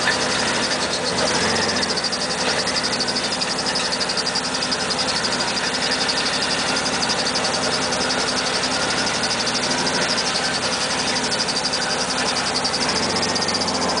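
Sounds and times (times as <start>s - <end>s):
car engine idling: 0.0s - 14.0s
rapid high-pitched pulsing chirp: 0.0s - 14.0s.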